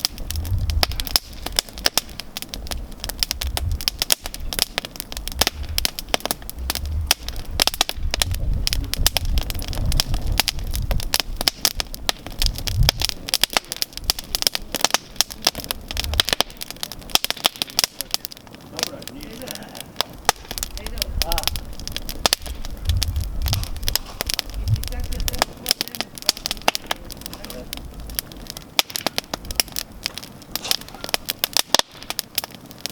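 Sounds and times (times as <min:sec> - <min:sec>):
campfire low rumble: 0:00.0 - 0:32.9
campfire snaps and pops: 0:00.0 - 0:32.9.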